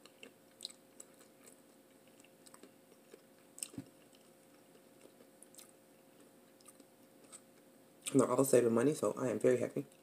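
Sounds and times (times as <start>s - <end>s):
faint chewing mouth clicks: 0.0s - 8.2s
quiet room hum: 0.0s - 10.0s.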